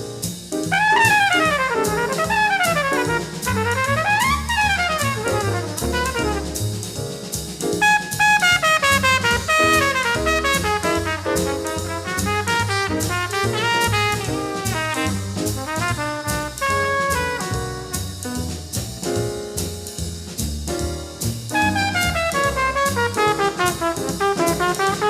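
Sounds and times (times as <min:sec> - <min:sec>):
walking bass: 0:00.0 - 0:08.0, 0:08.8 - 0:25.0
drum kit with ride cymbal: 0:00.0 - 0:25.0
horn playing jazz line: 0:00.6 - 0:06.9, 0:07.8 - 0:18.5, 0:21.5 - 0:25.0.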